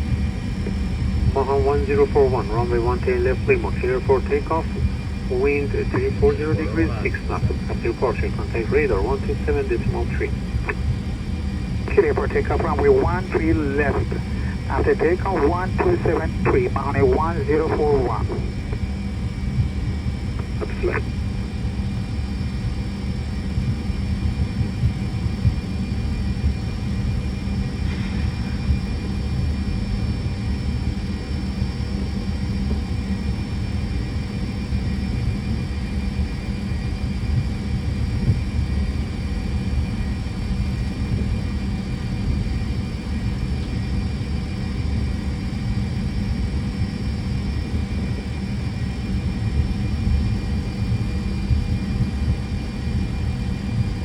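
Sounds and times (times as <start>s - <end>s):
faint engine whine: 0.0s - 54.0s
jet engines low rumble: 0.0s - 54.0s.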